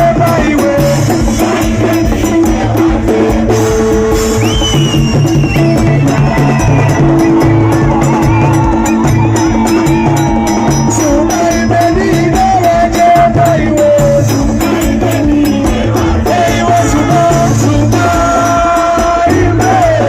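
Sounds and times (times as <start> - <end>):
live band music: 0.0 - 20.0
person singing: 0.0 - 20.0
repeating bass line: 0.0 - 20.0
shaker percussion: 0.0 - 20.0.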